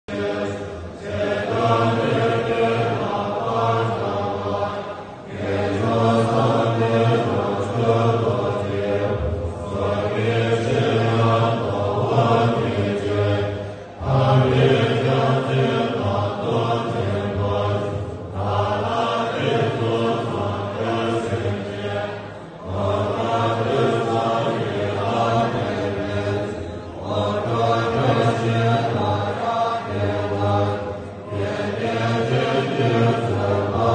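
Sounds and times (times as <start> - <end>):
group of men chanting: 0.1 - 33.9.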